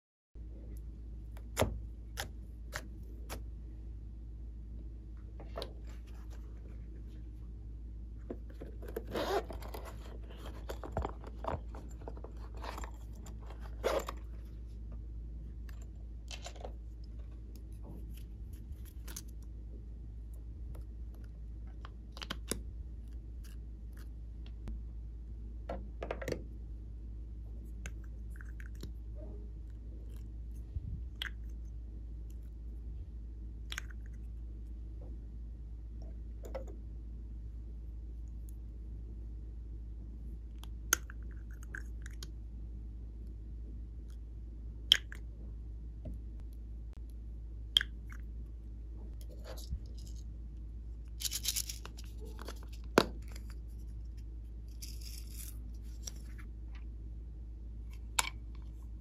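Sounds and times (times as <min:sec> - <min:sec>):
steady low hum: 0:00.4 - 0:59.0.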